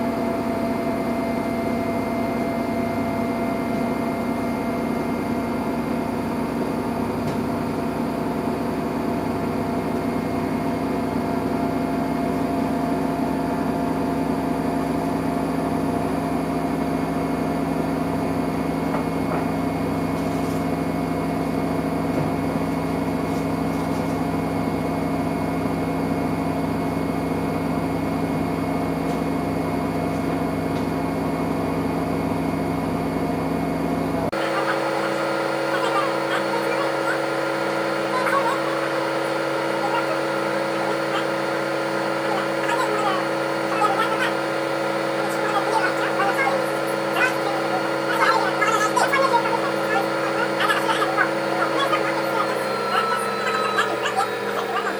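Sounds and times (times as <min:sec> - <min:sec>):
washing machine motor hum: 0:00.0 - 0:54.9.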